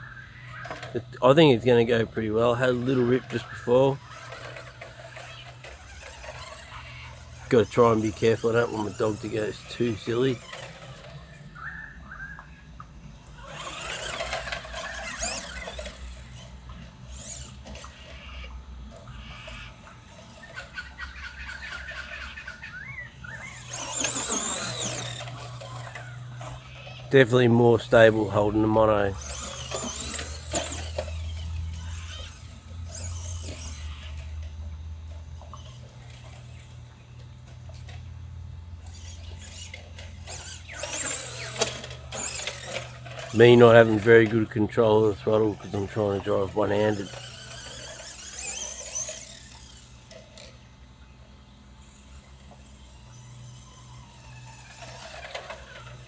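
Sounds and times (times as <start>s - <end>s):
rc truck motor whine: 0.0s - 56.0s.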